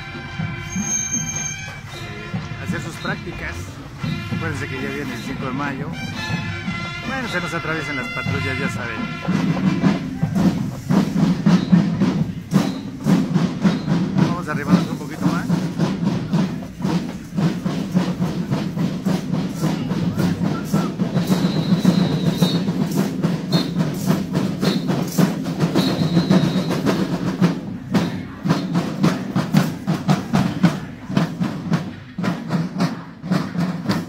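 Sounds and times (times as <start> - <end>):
marching band drums: 0.0 - 34.0.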